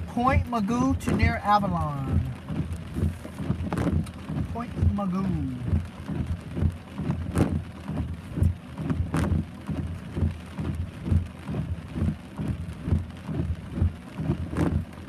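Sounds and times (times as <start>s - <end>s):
heavy rain falling: 0.0s - 15.0s
low thuds: 0.0s - 15.0s.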